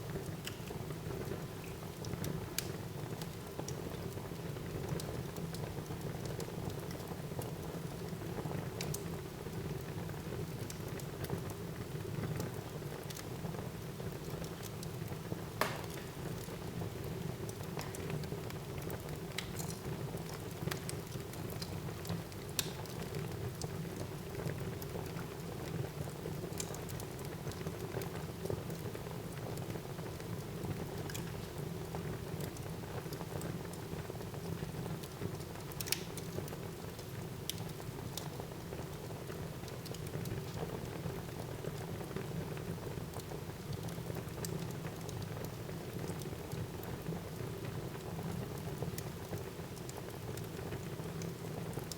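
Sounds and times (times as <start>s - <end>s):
wood fire crackling: 0.1s - 51.9s.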